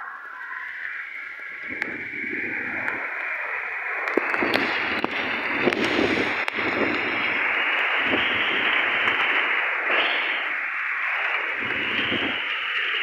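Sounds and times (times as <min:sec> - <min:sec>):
gusting wind rumbling: 0:00.0 - 0:13.0
heavy rain hissing: 0:00.0 - 0:13.0.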